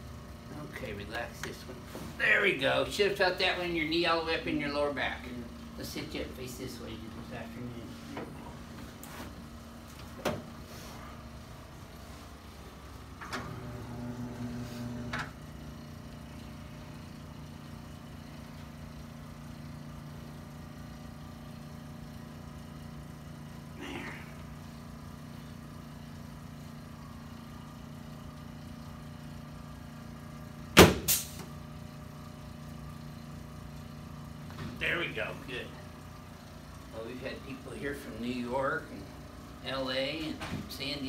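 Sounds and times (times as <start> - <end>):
low room hum: 0.0 - 41.0
motor-like hum: 0.0 - 41.0.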